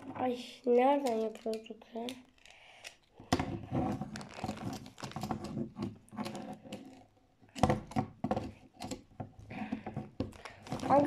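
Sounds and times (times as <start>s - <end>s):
plastic and packaging handled: 0.0s - 11.0s.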